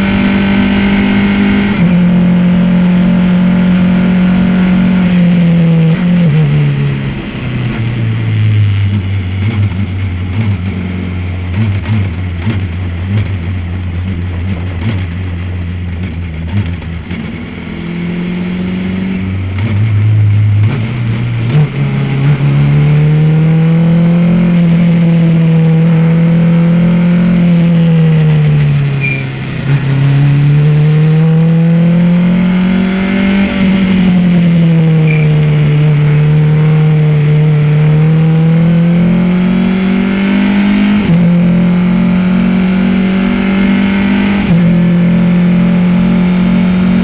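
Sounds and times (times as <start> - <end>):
race car engine at speed: 0.0 - 47.0.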